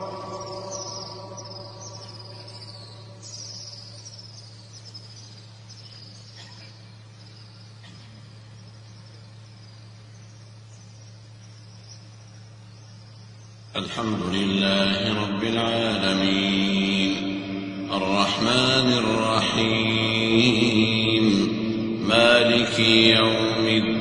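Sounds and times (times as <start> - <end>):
crickets chirping: 0.0 - 24.0
low electrical hum: 0.0 - 24.0.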